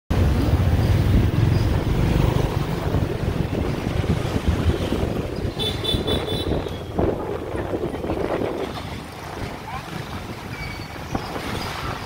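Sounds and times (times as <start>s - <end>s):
scooter ride rumble: 0.1s - 12.0s
street traffic: 0.1s - 12.0s
wind buffeting microphone: 0.1s - 12.0s.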